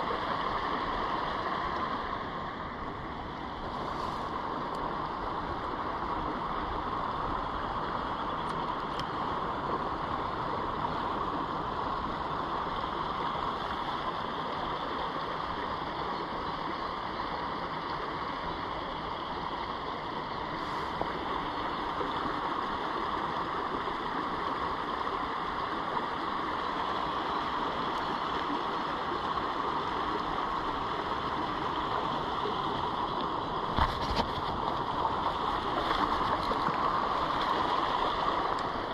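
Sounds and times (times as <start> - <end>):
stream babbling over rocks: 0.0 - 38.9.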